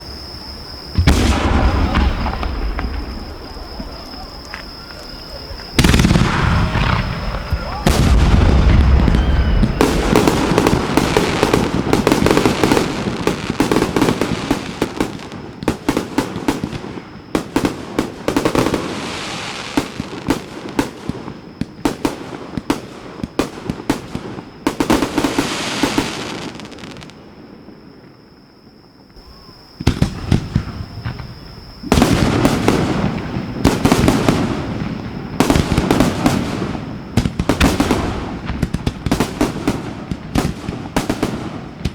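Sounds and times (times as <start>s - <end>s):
fireworks bursting and crackling: 0.0s - 27.8s, 29.1s - 41.9s.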